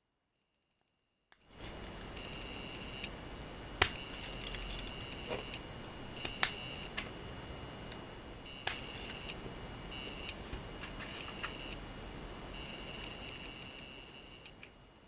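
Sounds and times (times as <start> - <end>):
thin high whine: 1.4 - 15.0
steady hiss: 1.5 - 15.0.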